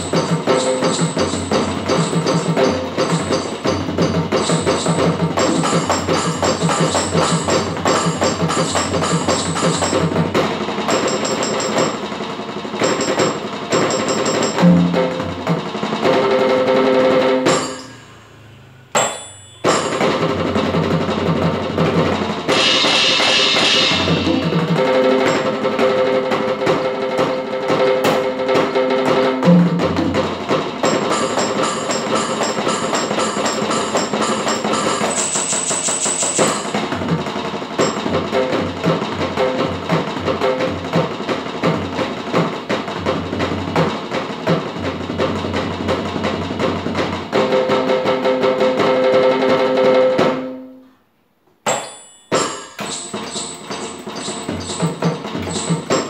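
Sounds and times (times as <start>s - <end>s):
electronic drum kit playing: 0.0s - 18.3s, 18.9s - 48.2s, 52.3s - 56.0s.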